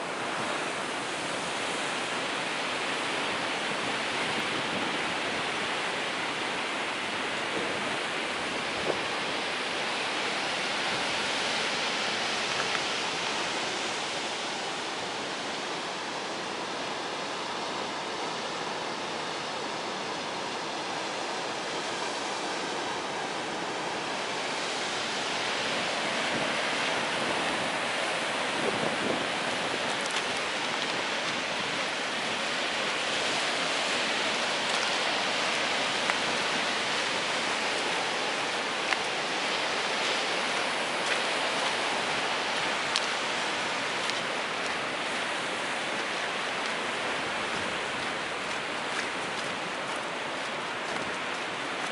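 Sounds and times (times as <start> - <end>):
ocean surf: 0.0 - 51.9
wind on the shore: 0.0 - 51.9.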